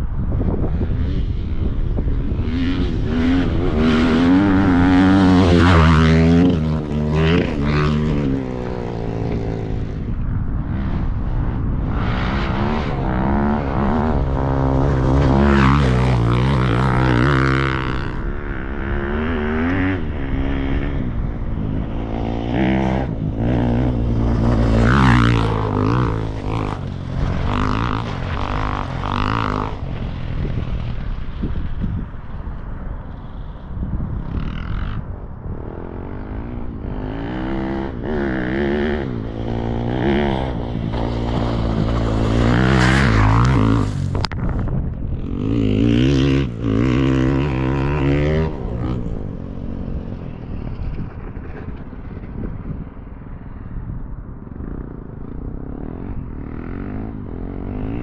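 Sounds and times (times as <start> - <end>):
motorcycle engine revving: 0.0 - 53.8, 54.5 - 58.0.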